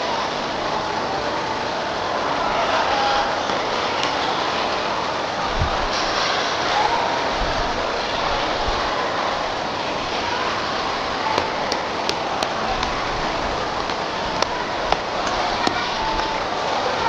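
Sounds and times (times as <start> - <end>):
crowd murmur: 0.0 - 17.0.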